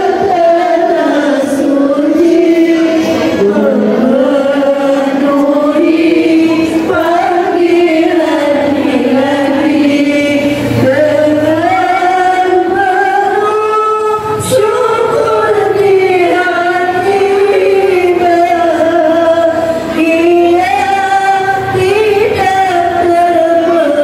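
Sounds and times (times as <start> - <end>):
voices chanting in unison: 0.0 - 24.0.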